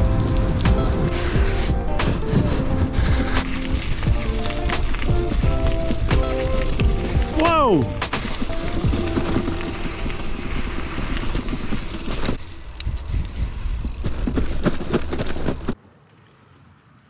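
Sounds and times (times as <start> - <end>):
bicycle tyre rumble on gravel: 0.0 - 15.8
wind noise: 0.0 - 15.8
bicycle knocks and rattles: 0.4 - 13.1, 13.7 - 15.8.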